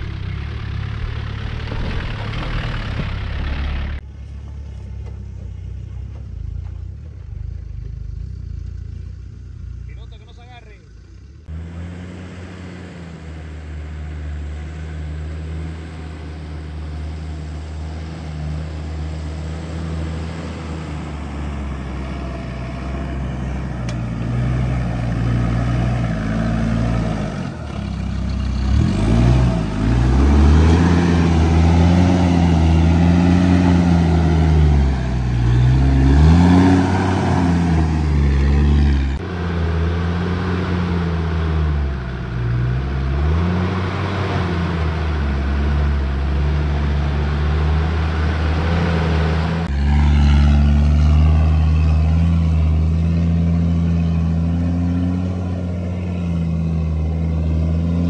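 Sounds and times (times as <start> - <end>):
diesel engine labouring uphill: 0.0 - 58.0.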